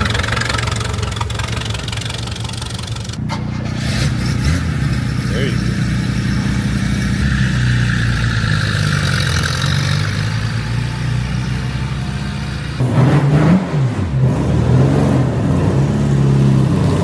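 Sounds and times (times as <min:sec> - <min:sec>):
car engines running: 0:00.0 - 0:17.0
louder engine revving: 0:03.2 - 0:17.0.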